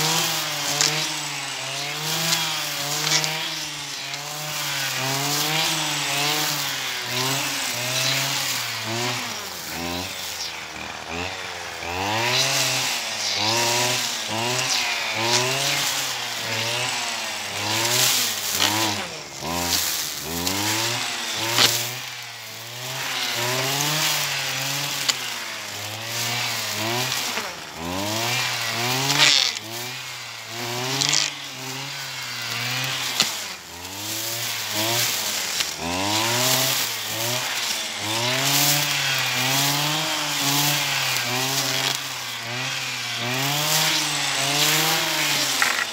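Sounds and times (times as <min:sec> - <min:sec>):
brush cutter engine revving: 0:00.0 - 0:45.9
cutter swishing through grass: 0:00.0 - 0:45.9.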